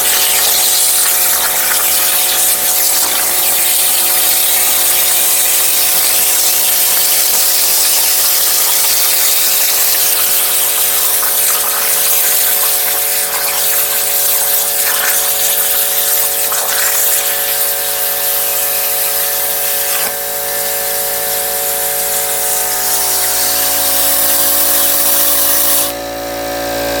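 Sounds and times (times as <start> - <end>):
plasma cutter torch hissing: 0.0 - 26.0.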